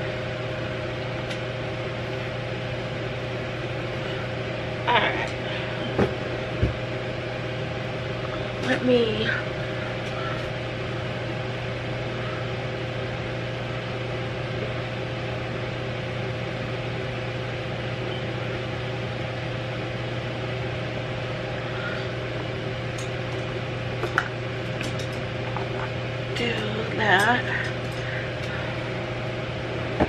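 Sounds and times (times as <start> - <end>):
electric fan whooshing: 0.0 - 30.0.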